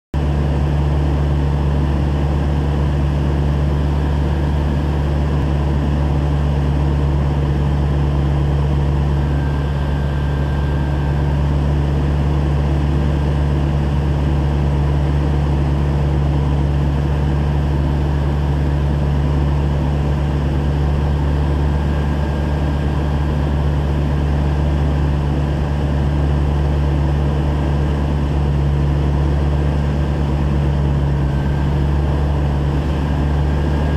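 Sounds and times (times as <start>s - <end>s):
low mechanical drone: 0.2s - 33.9s.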